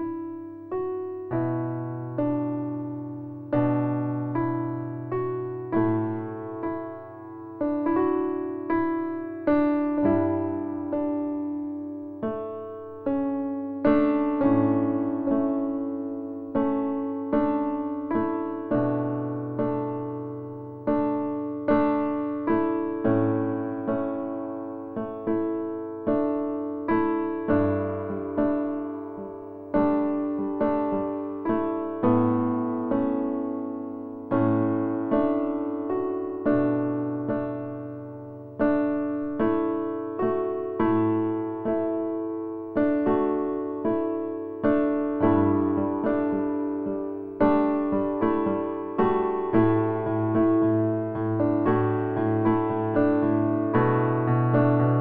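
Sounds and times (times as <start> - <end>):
slow piano notes and chords: 0.0 - 55.0.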